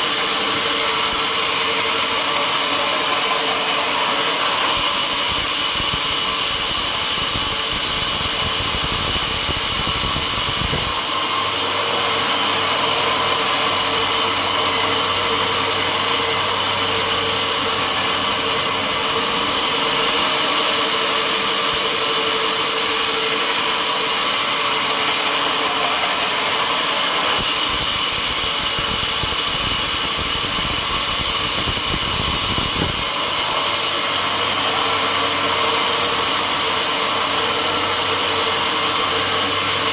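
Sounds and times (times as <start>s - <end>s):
sawmill saw and motor noise: 0.0s - 39.9s.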